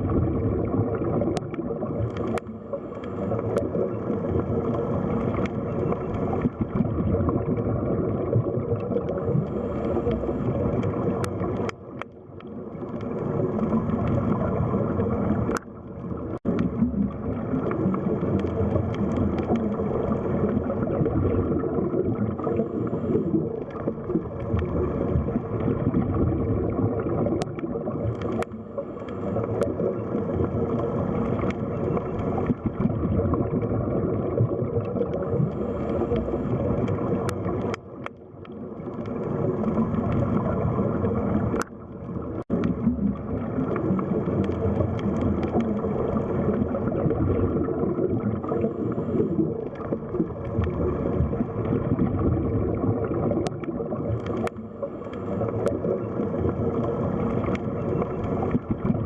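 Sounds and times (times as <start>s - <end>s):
underwater rush and gurgle: 0.0s - 59.0s.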